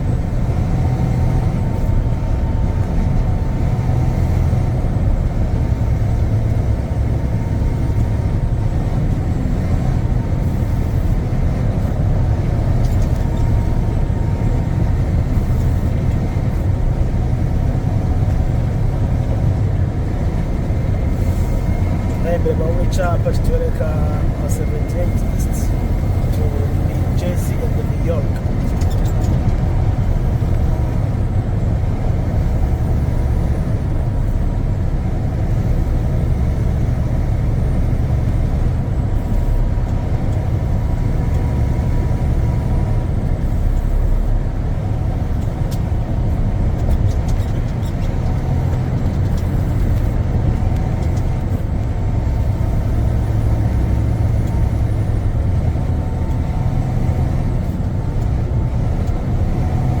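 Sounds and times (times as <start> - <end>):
truck engine and tyres drone: 0.0 - 60.0.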